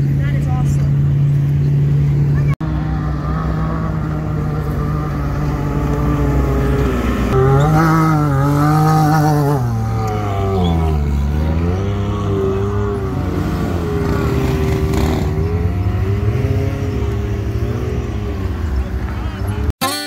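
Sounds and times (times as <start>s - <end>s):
engine revving under load: 1.7s - 19.7s.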